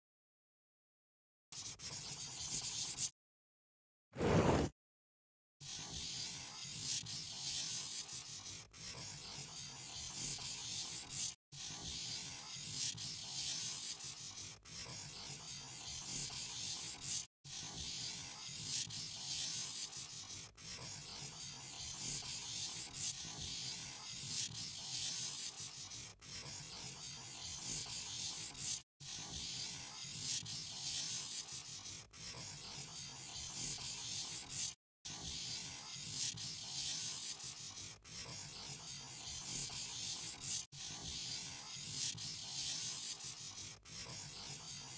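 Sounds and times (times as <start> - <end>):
pen scratching on paper: 1.6 - 3.2, 4.2 - 4.7, 5.6 - 44.9.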